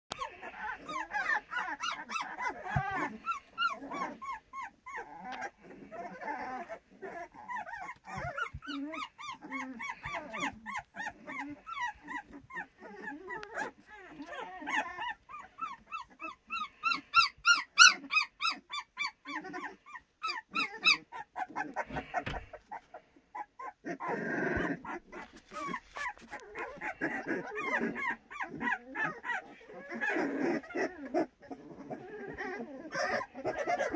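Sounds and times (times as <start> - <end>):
puppies yipping and whining: 0.1 - 33.9.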